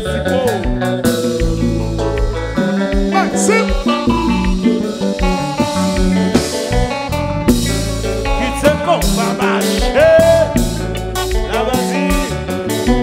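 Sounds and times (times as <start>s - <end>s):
electric guitar lead line: 0.0s - 13.0s
live band music: 0.0s - 13.0s.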